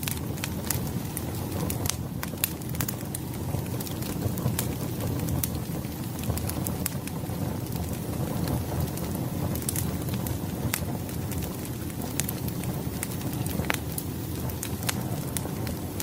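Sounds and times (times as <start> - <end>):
fire crackles and pops: 0.0 - 16.0
wood fire rumbling: 0.0 - 16.0.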